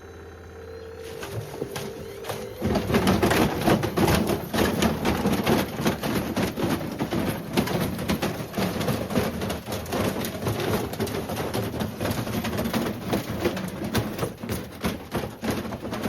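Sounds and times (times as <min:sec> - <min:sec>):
washing machine clattering: 0:01.2 - 0:16.0.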